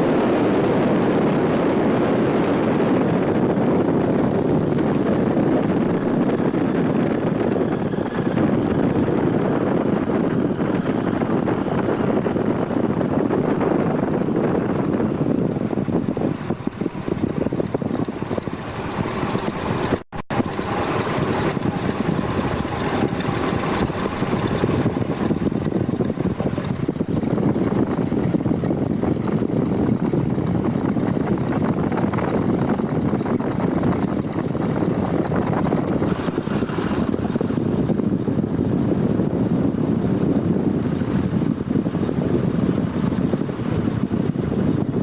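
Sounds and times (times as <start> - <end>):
biplane engine and propeller: 0.0 - 45.0
wind rushing over microphone: 0.0 - 45.0.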